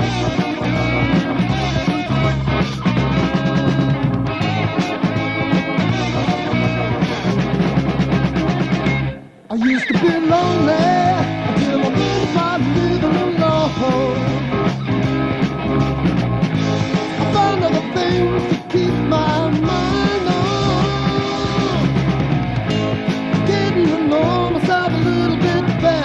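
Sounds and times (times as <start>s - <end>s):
rock band music: 0.0s - 26.0s.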